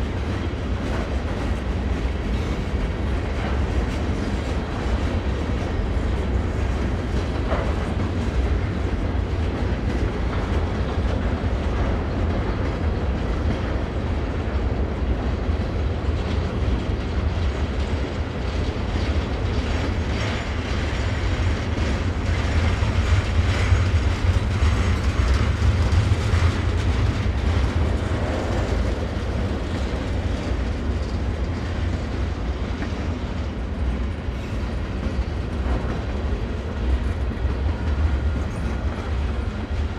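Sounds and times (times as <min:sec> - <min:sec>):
freight train rumbling: 0:00.0 - 0:39.9
train wheels clickety-clack: 0:00.0 - 0:39.9.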